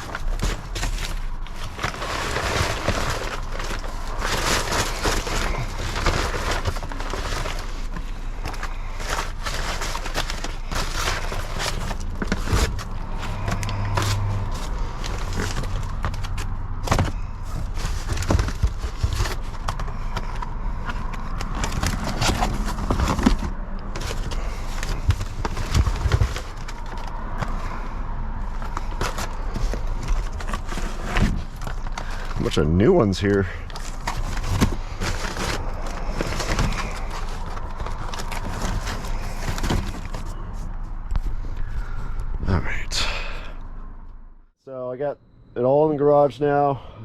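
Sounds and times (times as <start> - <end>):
plastic bags rustling: 0.0 - 42.0.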